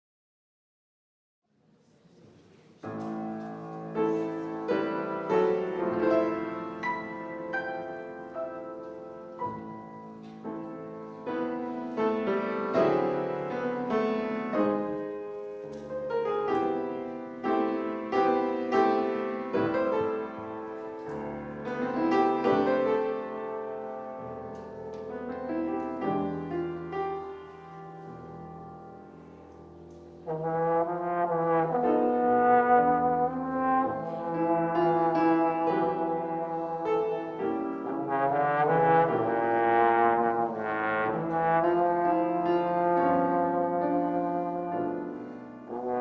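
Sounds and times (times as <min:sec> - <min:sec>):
grand piano playing: 0:02.8 - 0:46.0.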